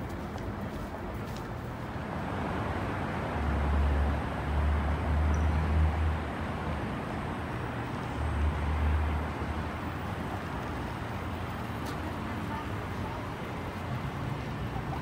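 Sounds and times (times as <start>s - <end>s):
car tyre road noise: 0.0s - 15.0s.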